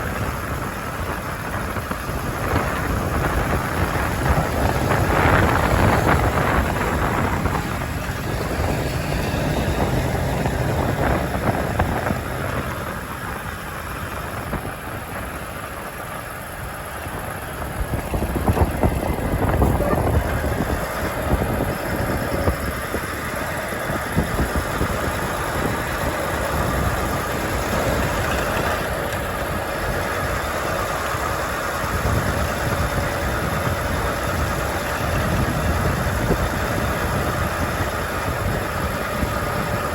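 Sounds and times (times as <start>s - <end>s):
road noise: 0.0s - 39.9s
truck engine running: 0.0s - 39.9s.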